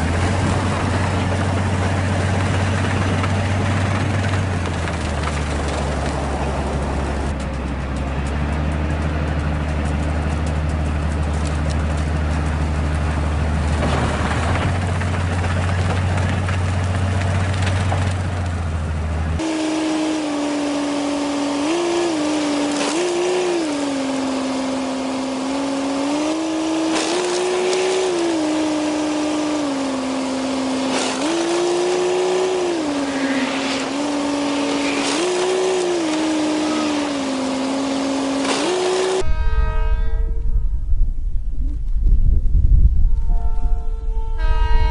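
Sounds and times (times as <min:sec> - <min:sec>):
engine revving: 0:00.0 - 0:39.3
engine droning: 0:00.0 - 0:44.9.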